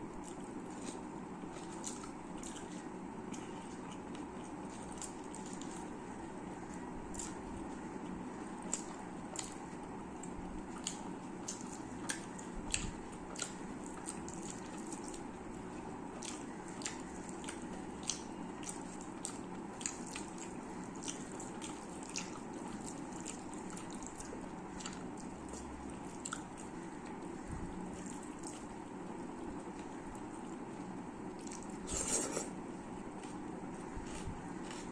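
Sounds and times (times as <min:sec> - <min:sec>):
steady low hum: 0:00.0 - 0:34.9
wet chewing smacks: 0:00.2 - 0:06.0, 0:08.6 - 0:28.8, 0:29.5 - 0:32.4.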